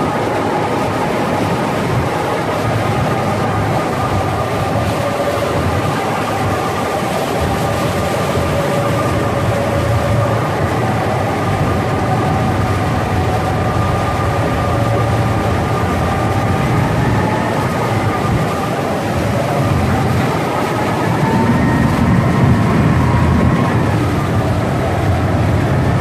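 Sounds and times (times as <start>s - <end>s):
boat engines running: 0.0s - 26.0s
water rushing between hulls: 0.0s - 26.0s.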